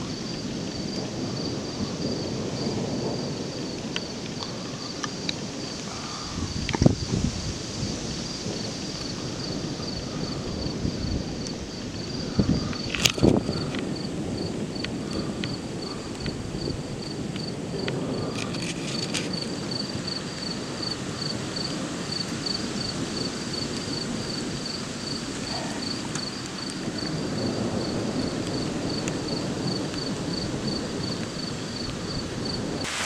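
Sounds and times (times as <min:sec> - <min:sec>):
cricket chirping: 0:00.0 - 0:33.0
low rushing wind: 0:00.0 - 0:33.0.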